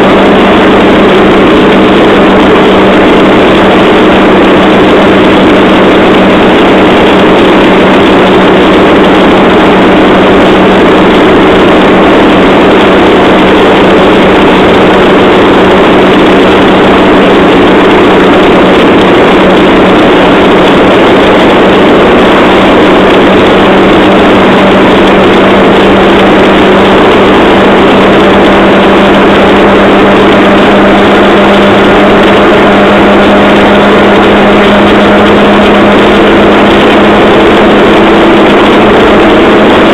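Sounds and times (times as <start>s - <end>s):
rail trolley engine droning: 0.0s - 39.9s.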